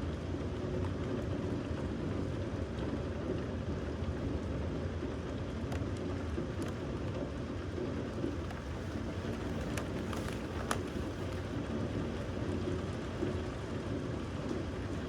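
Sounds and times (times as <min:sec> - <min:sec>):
steady rain: 0:02.3 - 0:15.0.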